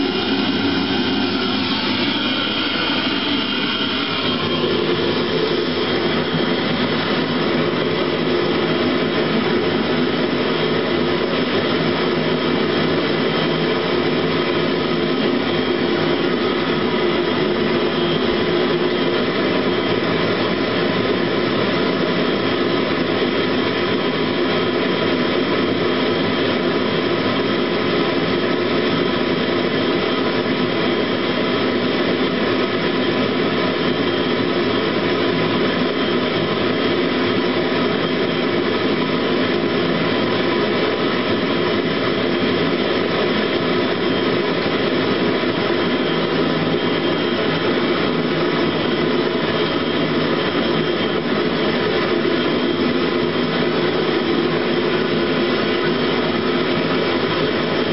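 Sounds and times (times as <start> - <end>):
heater blower and burner rush: 0.0 - 57.9.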